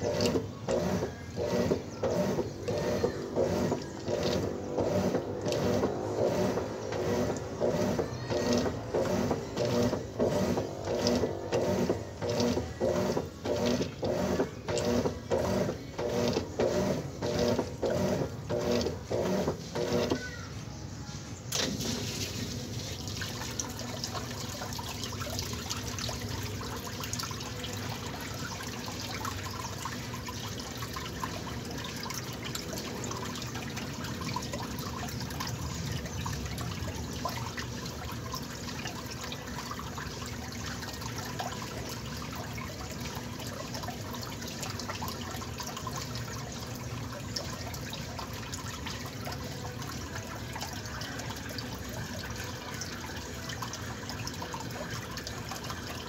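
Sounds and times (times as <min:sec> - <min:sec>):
water sloshing in washing machine: 0:00.0 - 0:56.0.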